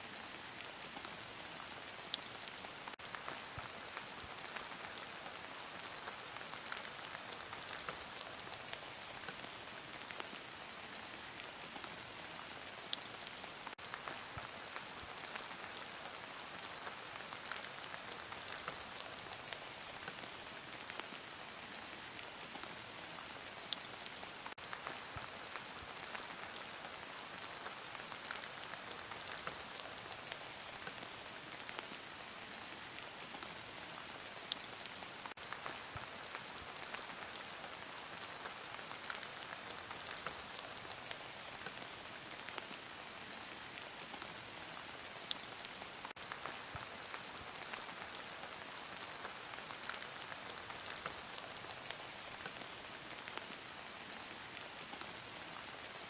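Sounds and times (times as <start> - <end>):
heavy rain falling: 0.2 - 21.4, 23.2 - 56.0.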